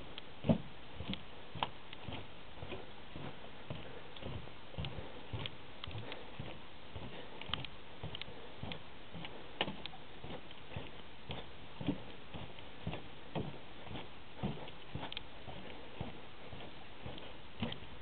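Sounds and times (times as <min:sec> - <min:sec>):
footsteps on wooden boardwalk: 0:00.0 - 0:18.0.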